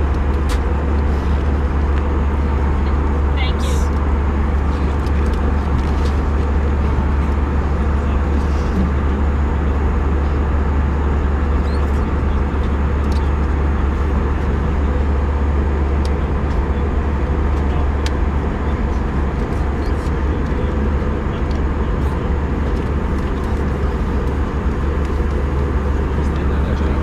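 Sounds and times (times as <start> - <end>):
aircraft cabin engine rumble: 0.0 - 27.0.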